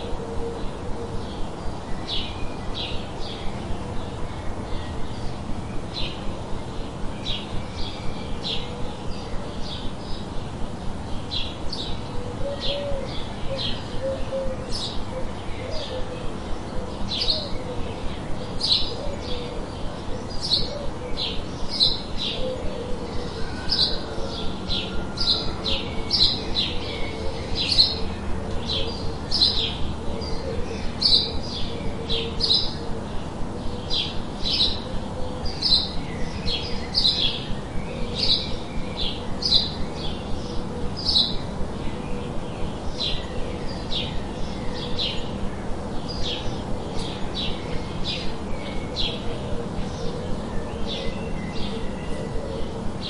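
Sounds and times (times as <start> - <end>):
small songbirds chirping: 0.0 - 53.0
steady background hiss: 0.0 - 53.0.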